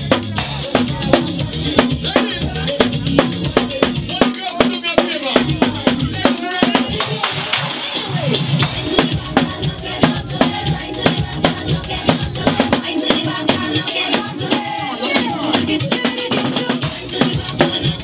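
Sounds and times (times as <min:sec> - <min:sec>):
drum kit played fast: 0:00.0 - 0:18.0
loud dance music: 0:00.0 - 0:18.0.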